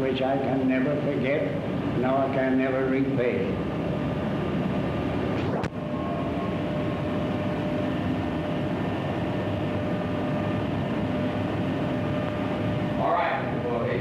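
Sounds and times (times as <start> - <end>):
faint steady hum: 0.0 - 14.0
film recording hiss and rumble: 0.0 - 14.0.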